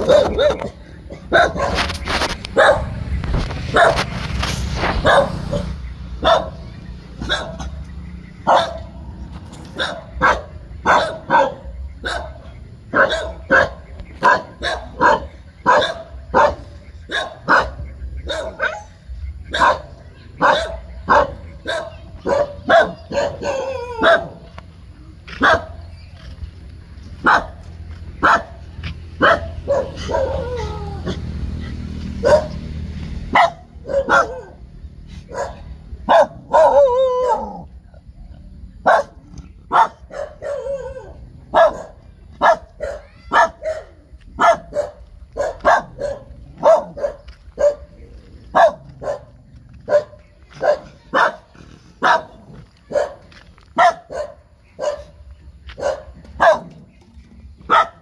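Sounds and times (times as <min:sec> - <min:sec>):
dog barking: 0:00.0 - 0:03.0, 0:03.7 - 0:04.1, 0:05.0 - 0:09.0, 0:09.7 - 0:24.6, 0:25.3 - 0:25.9, 0:27.2 - 0:31.2, 0:32.2 - 0:32.7, 0:33.3 - 0:34.6, 0:35.2 - 0:37.7, 0:38.8 - 0:56.8, 0:57.7 - 0:58.0.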